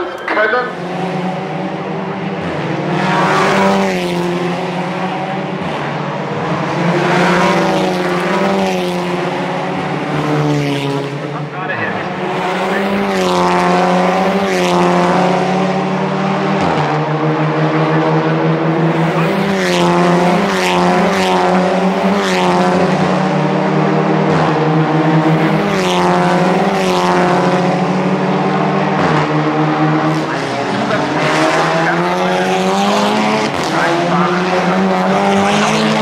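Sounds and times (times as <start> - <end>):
race car engines at full throttle: 0.0 - 36.0.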